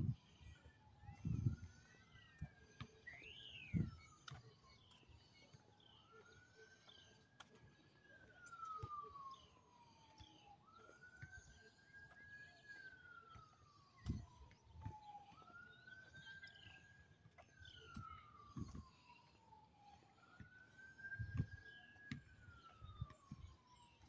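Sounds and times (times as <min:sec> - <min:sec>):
faint emergency vehicle siren wailing: 0:00.0 - 0:24.0.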